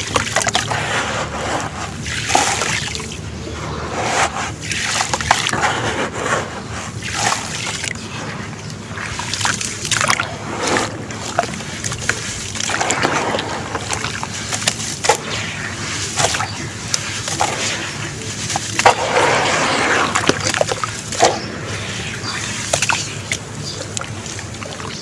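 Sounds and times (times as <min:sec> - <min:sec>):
cement lumps crunching by hand: 0:00.0 - 0:25.0.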